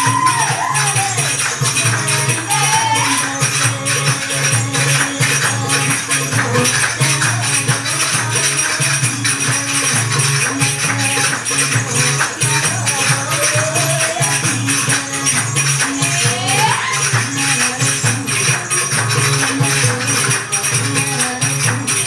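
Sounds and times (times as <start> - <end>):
hand drum pattern: 0.0 - 22.0.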